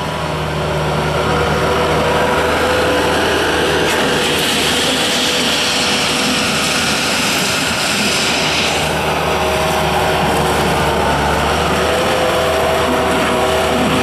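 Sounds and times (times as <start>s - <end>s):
diesel engine running: 0.0s - 14.0s
engine hiss: 0.0s - 14.0s.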